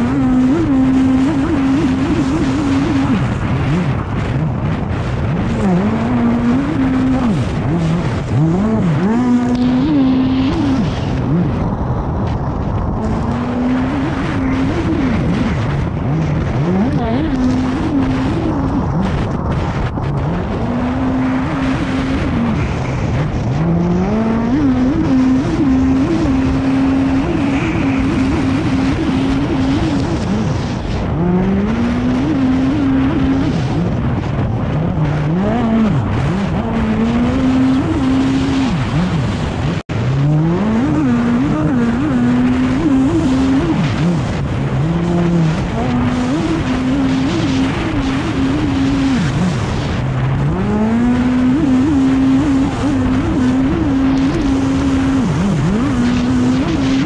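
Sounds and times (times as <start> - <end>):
jet ski engine revving: 0.0 - 57.0
rush of spray and wind: 0.0 - 57.0.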